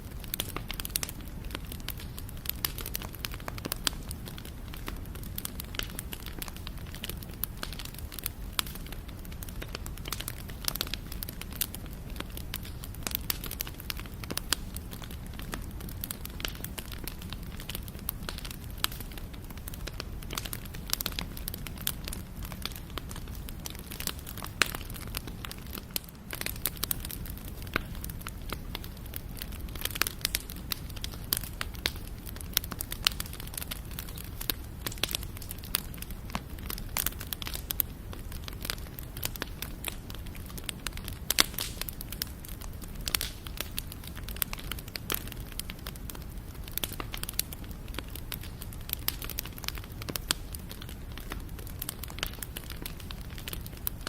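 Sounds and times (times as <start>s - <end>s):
fire crackles and pops: 0.0s - 54.0s
wood fire rumbling: 0.0s - 54.0s.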